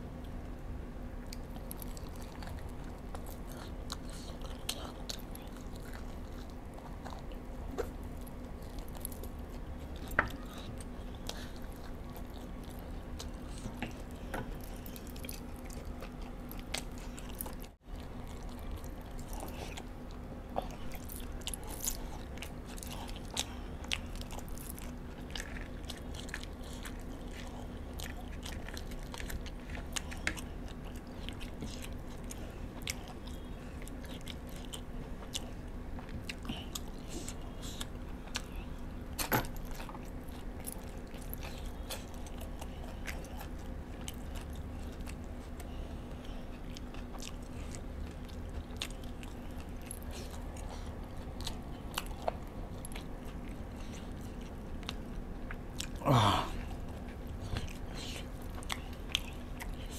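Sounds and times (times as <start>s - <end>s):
chewing and biting chicken wings: 1.3s - 59.9s.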